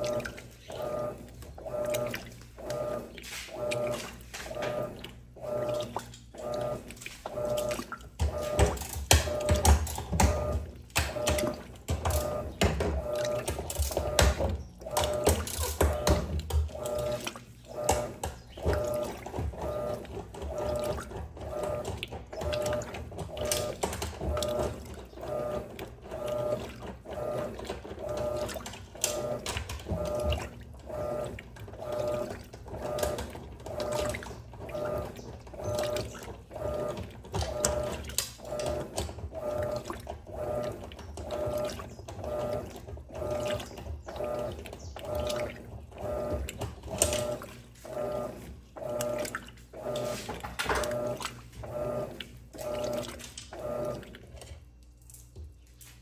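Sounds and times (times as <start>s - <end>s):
washing machine agitator sloshing: 0.0s - 56.0s.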